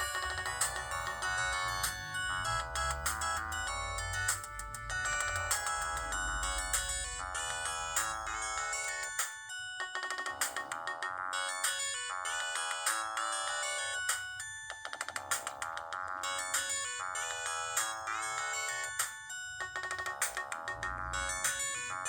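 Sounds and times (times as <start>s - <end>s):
electronic phone ringtone: 0.0s - 14.0s, 16.2s - 22.0s.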